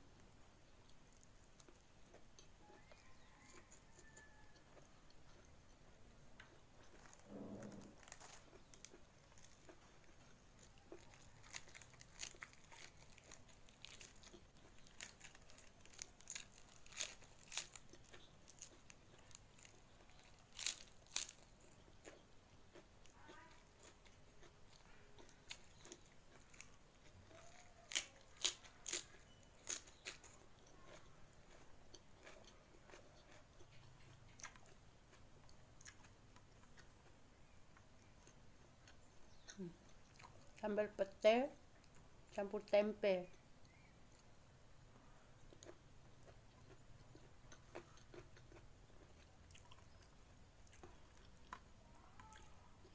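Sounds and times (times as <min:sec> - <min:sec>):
chewing crisp cabbage: 0:00.2 - 0:52.9.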